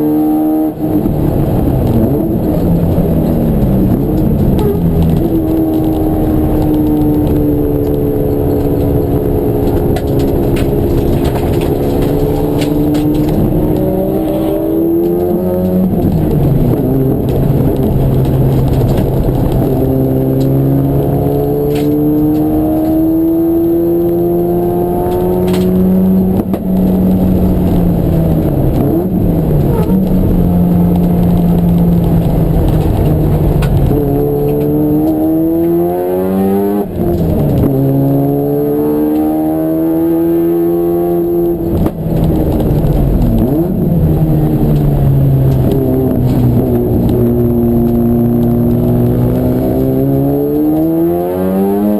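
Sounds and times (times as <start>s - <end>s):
race car engine accelerating: 0.0s - 51.9s.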